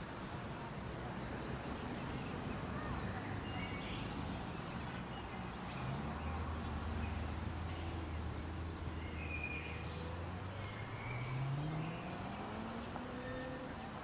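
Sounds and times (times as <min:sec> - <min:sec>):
vehicle engine humming: 0:01.4 - 0:14.0.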